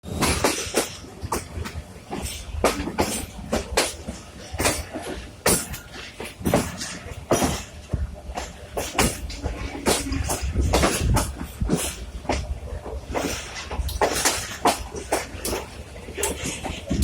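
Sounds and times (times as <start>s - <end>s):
train low rumble: 0.0s - 17.0s
train wheels knocking on rails: 0.0s - 17.0s.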